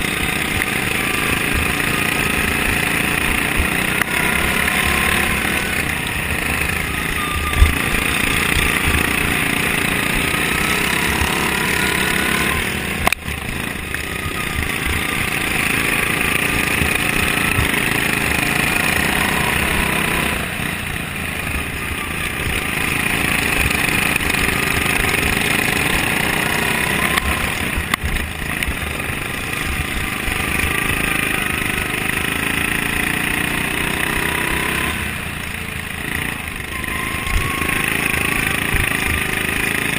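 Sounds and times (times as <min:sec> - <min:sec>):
lawn mower engine running hard: 0:00.0 - 0:39.9.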